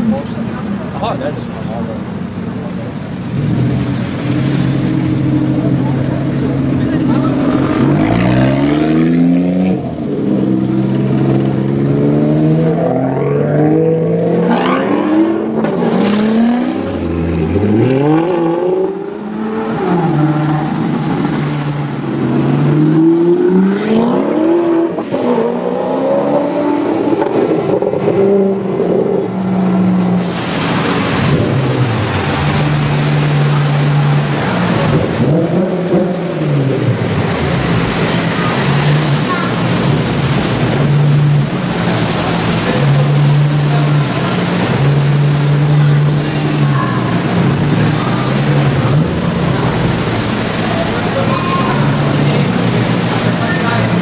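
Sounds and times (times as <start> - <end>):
sports car engines revving: 0.0 - 54.0.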